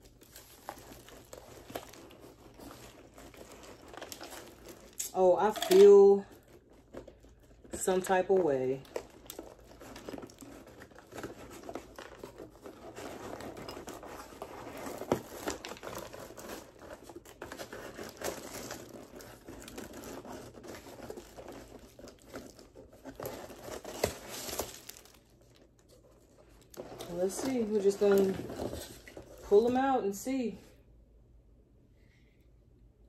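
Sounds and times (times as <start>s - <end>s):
plastic bag crinkling: 0.0s - 30.2s.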